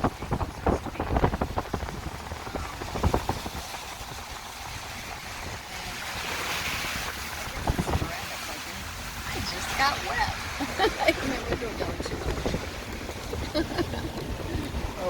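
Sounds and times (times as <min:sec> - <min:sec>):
water spray hissing from tyres: 0:00.0 - 0:15.0
wind and road noise: 0:00.0 - 0:15.0.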